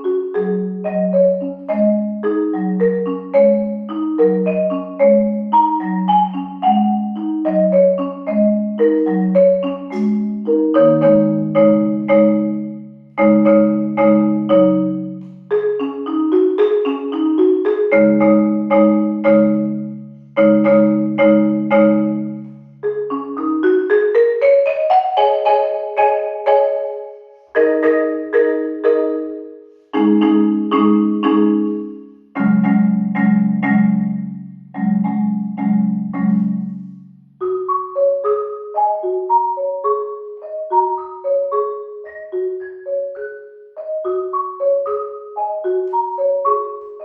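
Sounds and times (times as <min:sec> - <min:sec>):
marimba piece: 0:00.0 - 0:47.0.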